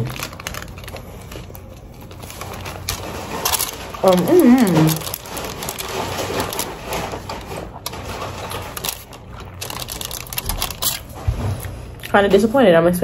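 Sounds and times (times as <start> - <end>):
sandwich clicking and rustling: 0.0 - 11.8.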